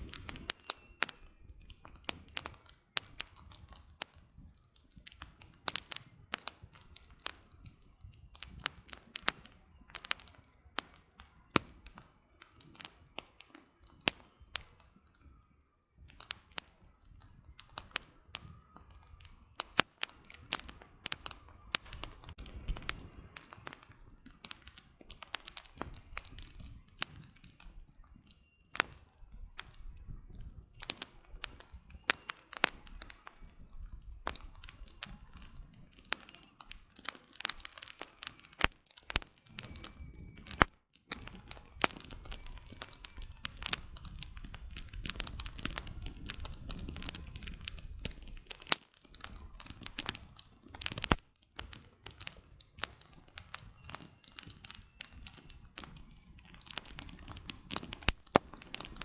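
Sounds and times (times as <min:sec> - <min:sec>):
campfire crackling and popping: 0:00.0 - 0:59.0
low rumble of flame: 0:00.0 - 0:59.0.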